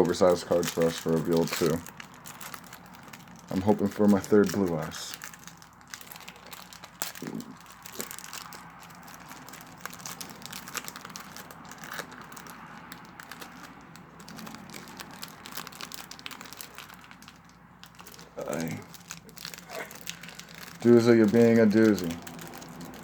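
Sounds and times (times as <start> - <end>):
foil wrapper crinkling: 0.0 - 23.0.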